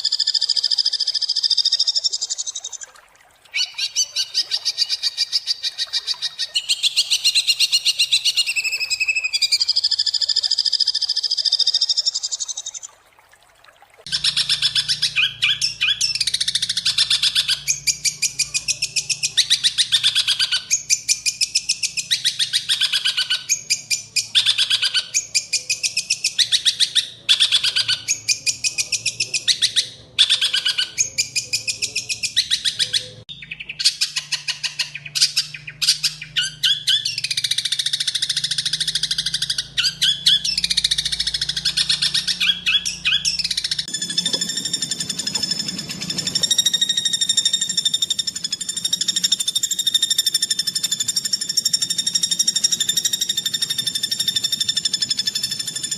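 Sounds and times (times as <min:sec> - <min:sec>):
bird singing harsh rapid phrases: 0:00.0 - 0:02.9, 0:03.5 - 0:12.9, 0:14.1 - 0:55.9.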